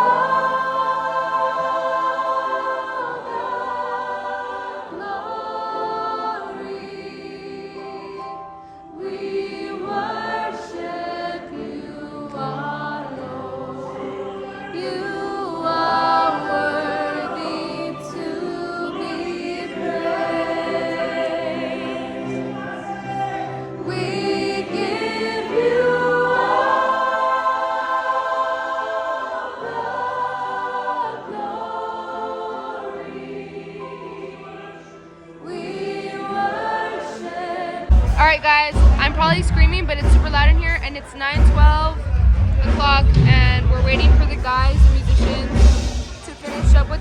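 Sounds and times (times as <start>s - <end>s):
gospel choir singing: 0.0s - 47.0s.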